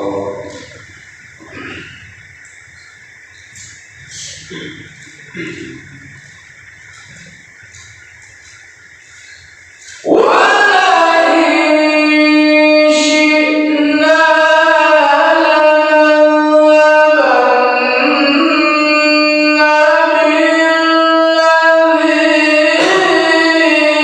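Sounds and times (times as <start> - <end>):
man reciting melodically: 0.0 - 2.6, 3.3 - 24.0.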